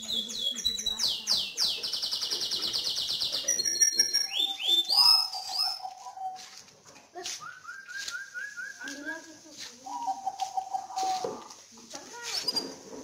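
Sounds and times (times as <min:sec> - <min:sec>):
songbirds singing: 0:00.0 - 0:06.6, 0:07.2 - 0:11.6.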